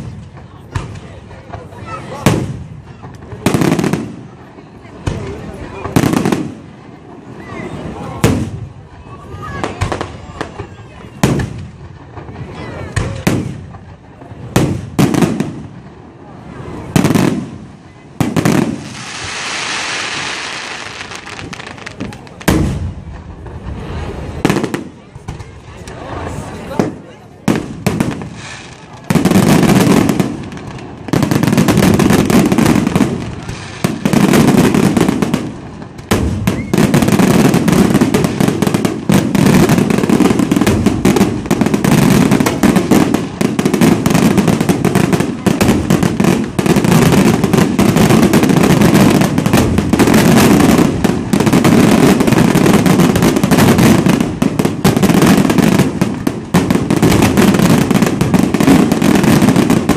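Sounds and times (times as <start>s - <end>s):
fireworks exploding: 0.0s - 59.9s.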